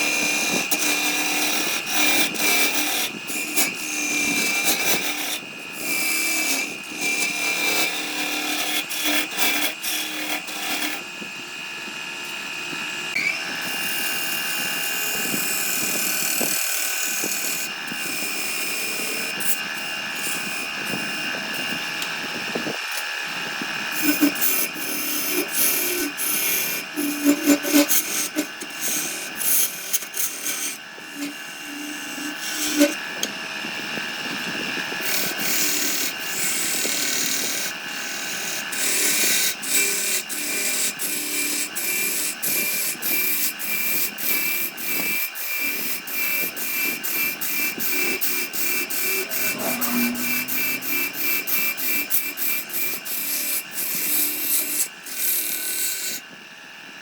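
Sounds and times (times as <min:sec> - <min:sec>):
hand tool rasping wood: 0:00.0 - 0:11.0, 0:15.1 - 0:23.1, 0:23.7 - 0:33.5, 0:34.3 - 0:56.2.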